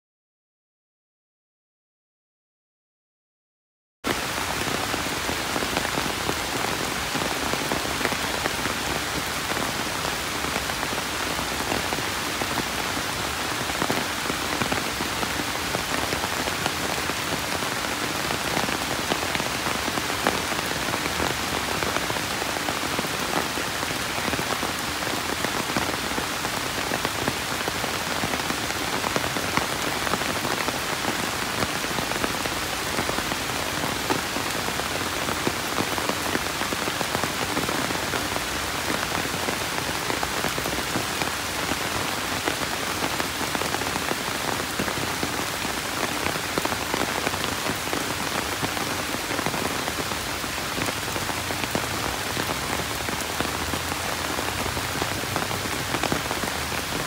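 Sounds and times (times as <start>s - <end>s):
steady rain falling: 4.1s - 57.0s.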